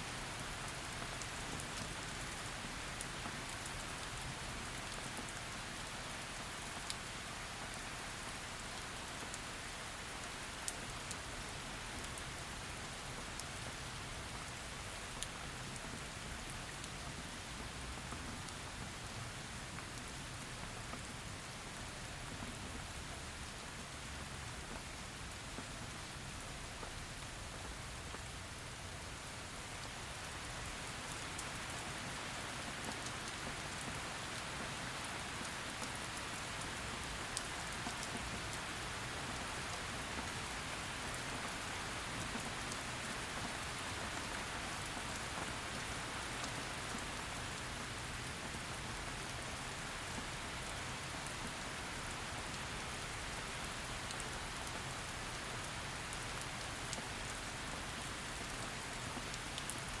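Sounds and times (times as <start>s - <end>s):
heavy rain falling: 0.1s - 60.0s.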